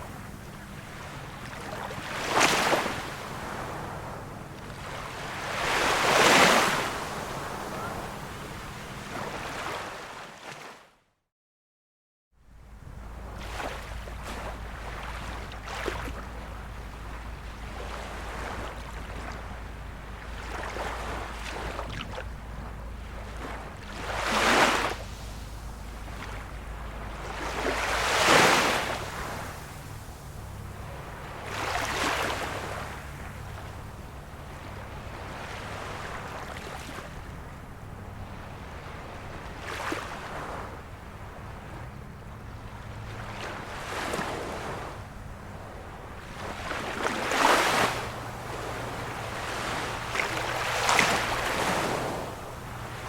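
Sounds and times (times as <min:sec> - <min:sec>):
small waves washing in: 0:00.0 - 0:10.8, 0:12.6 - 0:53.0.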